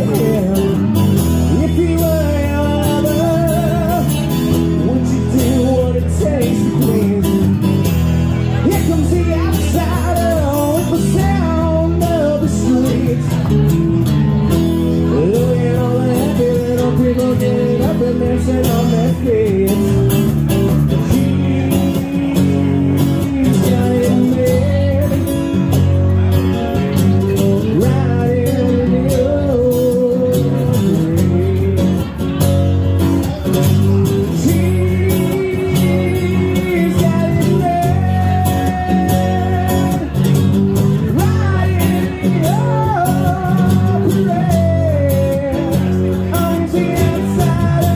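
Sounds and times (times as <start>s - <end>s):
electric bass: 0.0s - 47.9s
man singing into a microphone: 0.0s - 47.9s
strummed acoustic guitar: 0.0s - 47.9s.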